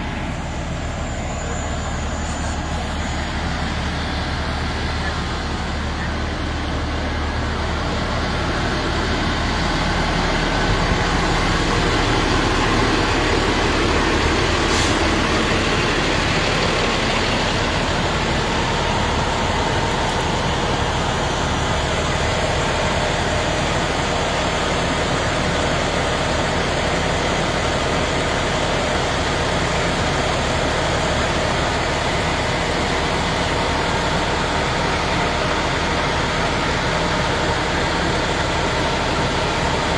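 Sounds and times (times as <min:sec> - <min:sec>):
large vehicle engine running: 0:00.0 - 0:39.9
street noise: 0:00.0 - 0:39.9.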